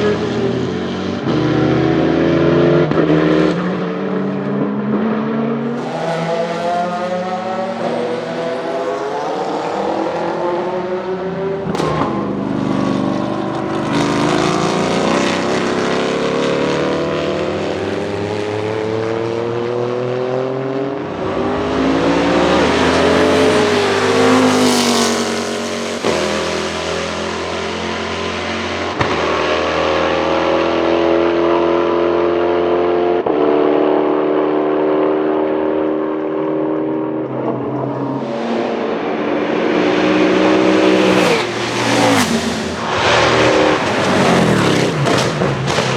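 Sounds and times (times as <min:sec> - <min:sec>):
race car engine passing: 0:00.0 - 0:33.8, 0:34.6 - 0:45.9.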